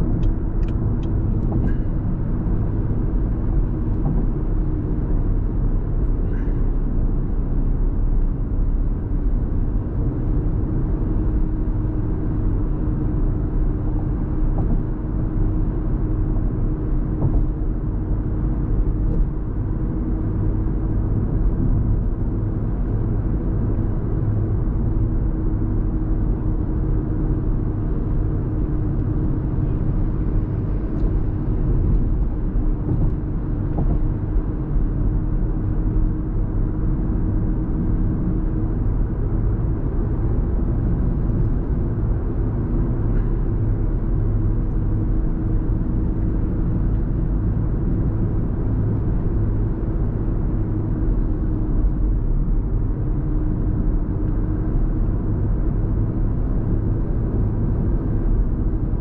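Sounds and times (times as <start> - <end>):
car cabin road rumble: 0.0 - 59.0.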